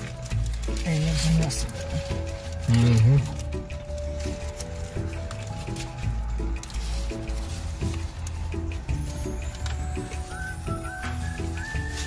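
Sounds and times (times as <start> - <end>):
music with bass and beat: 0.0 - 12.0.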